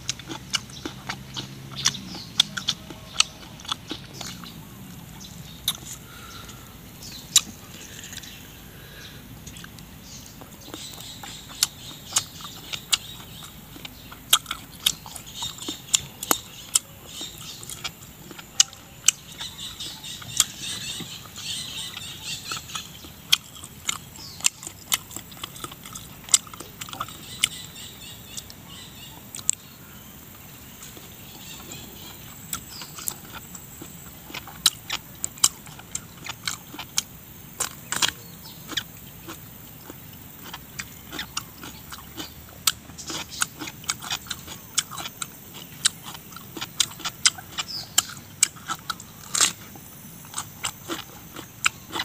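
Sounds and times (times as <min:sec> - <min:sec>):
crunchy chewing of cucumber: 0:00.0 - 0:52.0.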